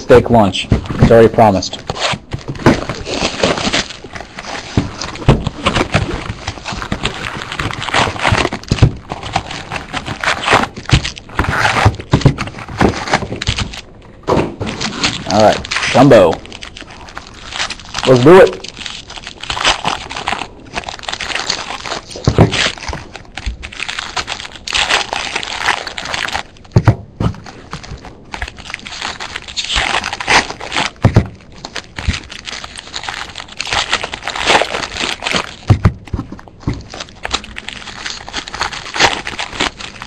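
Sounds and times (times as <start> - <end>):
foil wrappers tearing and crinkling: 0.0 - 14.0, 14.6 - 40.0.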